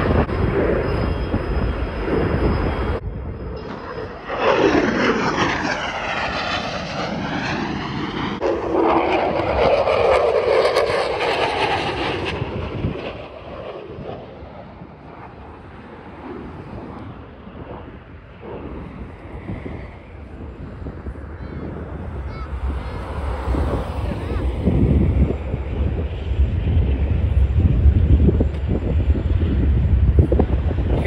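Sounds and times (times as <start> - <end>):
jet aircraft roar: 0.0 - 31.0.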